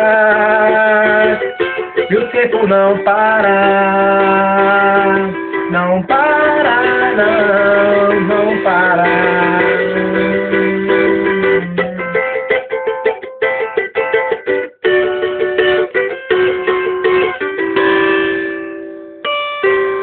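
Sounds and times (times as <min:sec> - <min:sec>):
plucked string instrumental music: 0:00.0 - 0:20.0.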